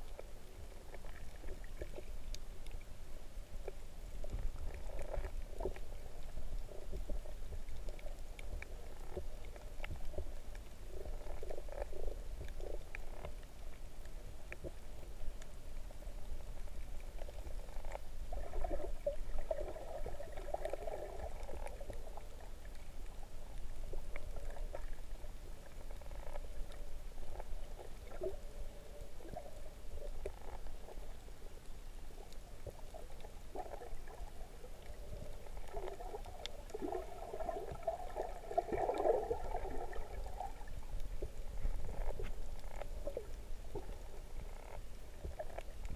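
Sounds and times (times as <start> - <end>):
faint clicks: 0.0 - 19.5, 20.4 - 37.0, 40.7 - 45.9
low rumble of moving water: 0.0 - 45.9
underwater gurgling: 0.0 - 45.9.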